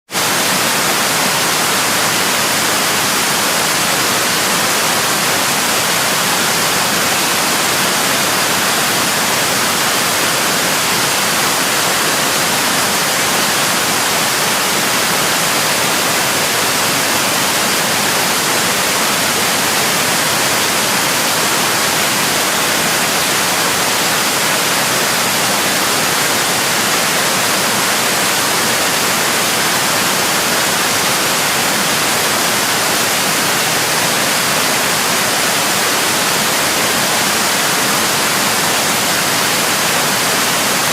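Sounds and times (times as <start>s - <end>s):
loud static hiss: 0.1s - 40.9s.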